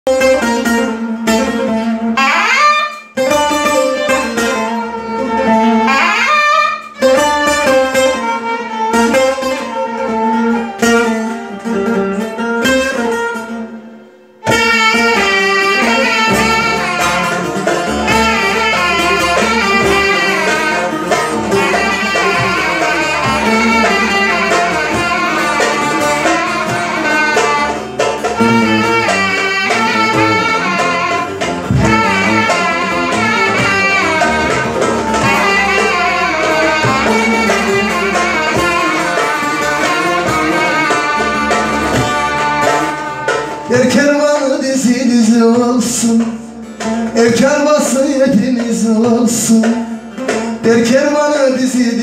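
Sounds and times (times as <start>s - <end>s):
wind instrument: 0.0s - 44.5s
violin: 0.0s - 44.6s
hand drum beating rhythm: 0.1s - 13.7s, 14.4s - 52.0s
plucked lute: 0.1s - 52.0s.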